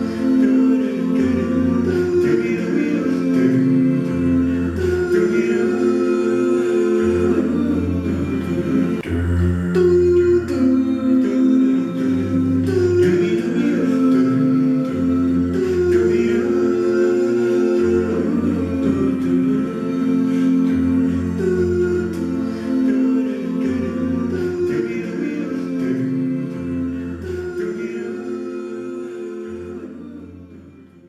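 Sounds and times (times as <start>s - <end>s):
male vocal quartet singing: 0.0s - 31.0s.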